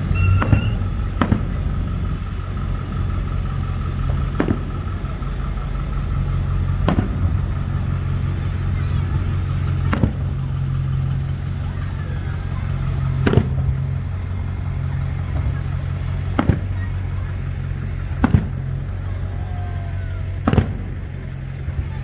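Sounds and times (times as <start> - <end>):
distant fireworks bangs: 0.0 - 22.0
low engine hum: 0.0 - 22.0.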